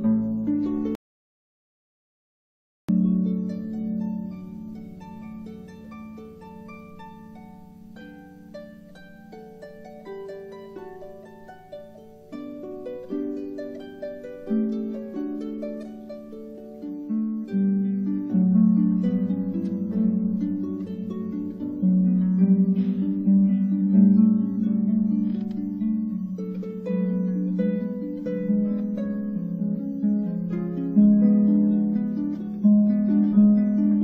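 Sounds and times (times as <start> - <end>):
harp playing solo: 0.0 - 1.0, 2.9 - 34.0.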